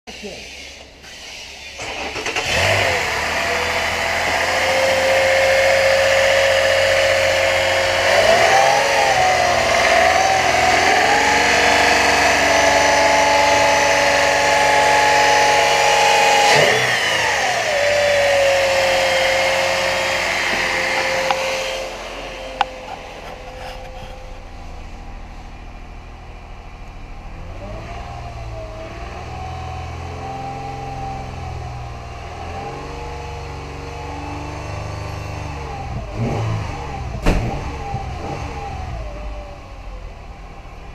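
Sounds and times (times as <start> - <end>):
engine revving: 0.1 - 40.6.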